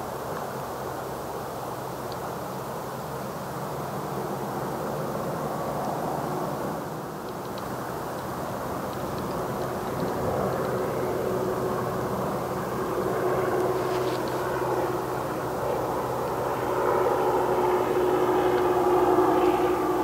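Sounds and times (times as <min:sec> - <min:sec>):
light aircraft engine droning: 0:00.0 - 0:20.0.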